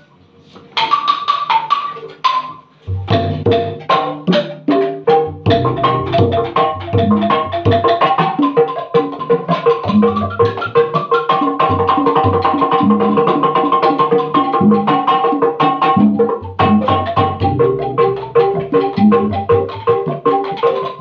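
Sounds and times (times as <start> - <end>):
hand drum rhythm: 0.7 - 21.0.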